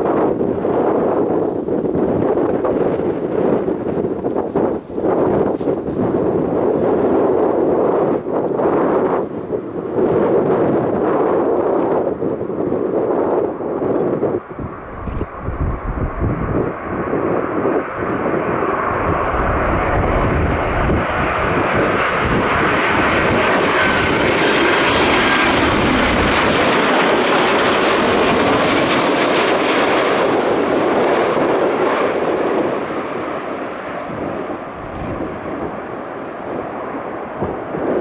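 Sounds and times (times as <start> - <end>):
aircraft engine passing: 0.0 - 38.0
wind buffeting microphone: 0.0 - 38.0.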